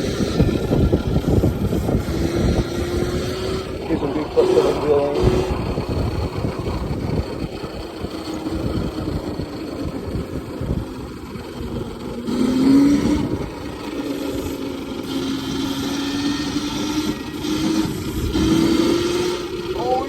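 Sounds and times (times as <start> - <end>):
ground rumble: 0.0 - 17.3
electric dirt bike motor whining: 0.0 - 20.0
wind on microphone: 0.0 - 20.0.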